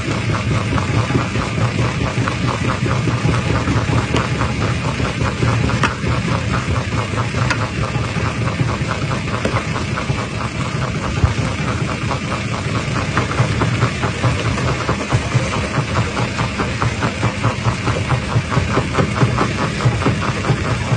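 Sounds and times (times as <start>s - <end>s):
low machine drone: 0.0s - 20.9s.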